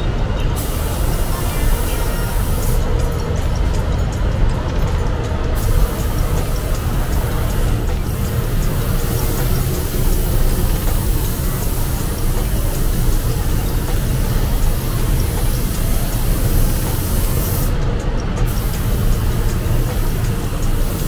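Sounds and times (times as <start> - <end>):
compressed air hiss: 0.6 - 2.9, 5.6 - 17.8, 18.5 - 21.0.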